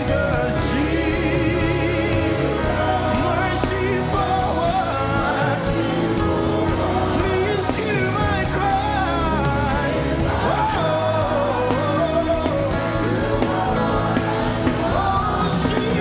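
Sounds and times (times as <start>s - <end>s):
person singing gospel: 0.0s - 16.0s
sustained backing instruments: 0.0s - 16.0s.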